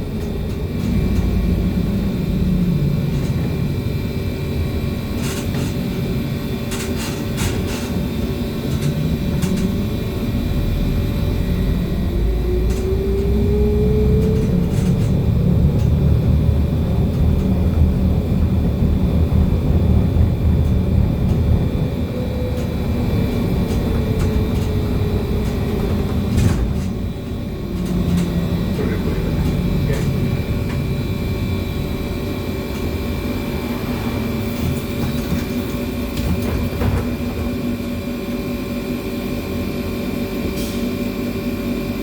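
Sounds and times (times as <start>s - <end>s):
road and body rumble: 0.0s - 42.0s.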